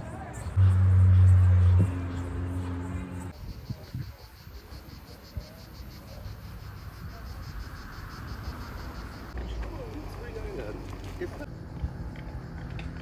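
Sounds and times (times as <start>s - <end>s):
cicadas buzzing: 0.5s - 12.9s.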